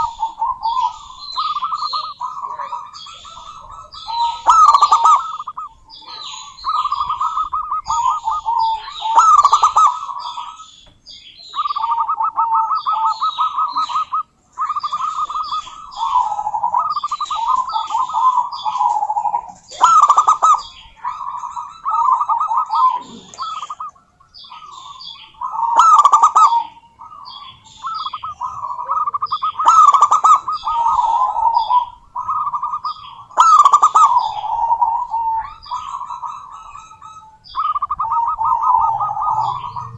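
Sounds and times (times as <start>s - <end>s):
dove stuttering coos: 0.0s - 10.7s, 11.6s - 39.9s.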